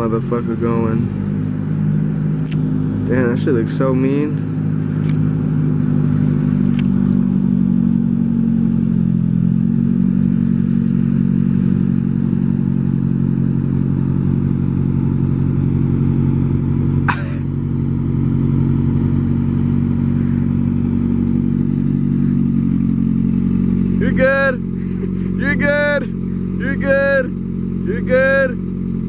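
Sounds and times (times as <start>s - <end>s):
pickup truck engine idling: 0.0s - 29.0s.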